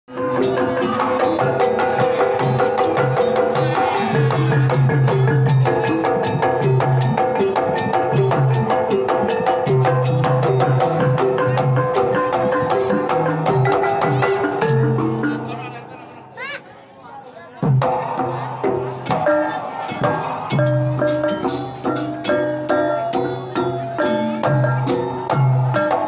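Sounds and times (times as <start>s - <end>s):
gamelan ensemble playing: 0.1s - 16.6s, 17.6s - 26.0s.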